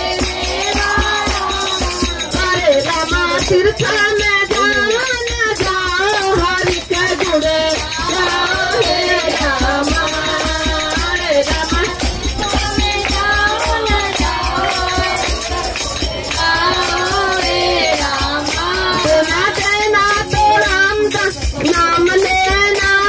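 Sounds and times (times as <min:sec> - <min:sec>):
men singing devotional chorus: 0:00.0 - 0:23.0
rhythmic hand-clapping: 0:00.0 - 0:23.0.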